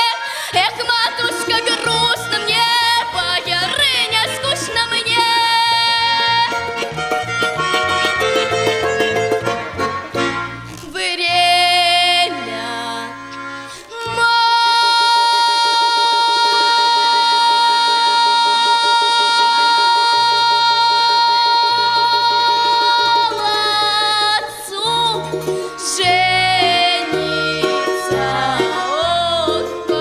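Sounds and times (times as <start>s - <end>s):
vocal trio singing folk song: 0.0s - 6.8s, 10.9s - 30.0s
instrumental accompaniment: 0.0s - 30.0s.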